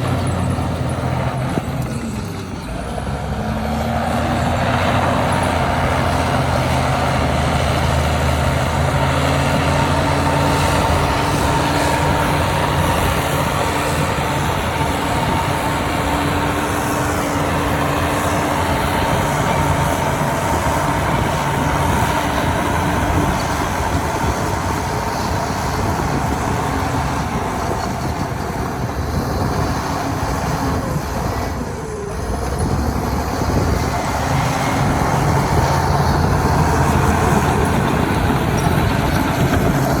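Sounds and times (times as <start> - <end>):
constant whine: 0.0 - 40.0
heavy diesel machinery running: 0.0 - 40.0.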